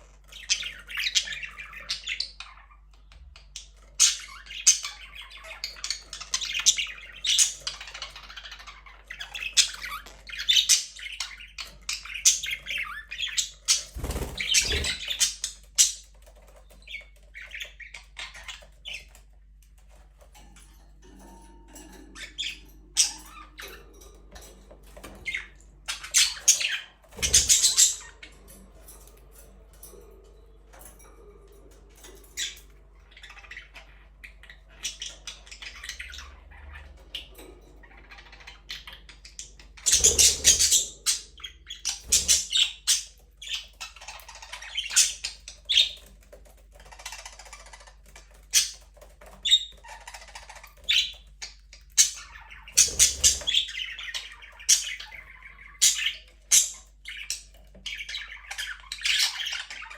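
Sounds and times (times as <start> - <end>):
budgerigars chattering and squawking: 0.0 - 59.9.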